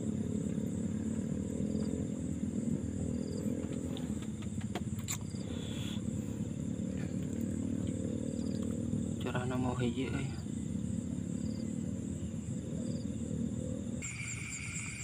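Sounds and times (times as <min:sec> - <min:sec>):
low chorus-like drone: 0:00.0 - 0:04.2, 0:05.4 - 0:15.0
high insect whine: 0:00.0 - 0:15.0.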